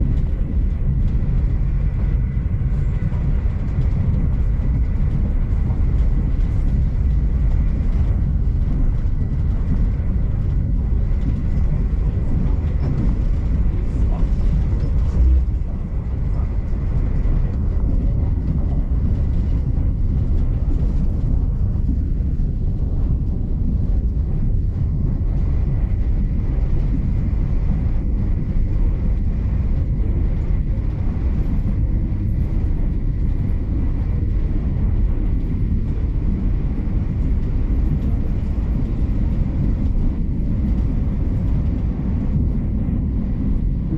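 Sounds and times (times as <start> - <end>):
train wheels rumbling: 0.0 - 43.9.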